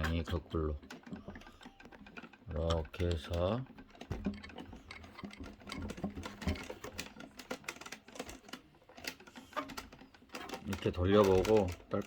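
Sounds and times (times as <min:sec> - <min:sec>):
plastic parts clicking and tapping: 0:00.0 - 0:12.0.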